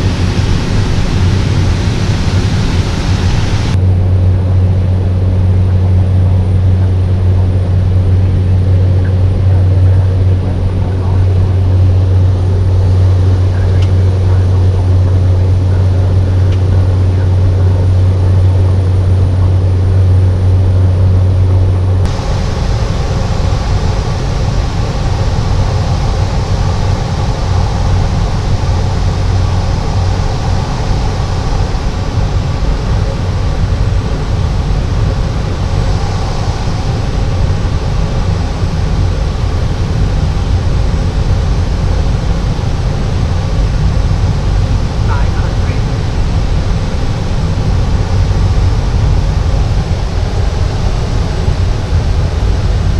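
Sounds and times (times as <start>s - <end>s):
turboprop engine droning: 0.0s - 52.9s.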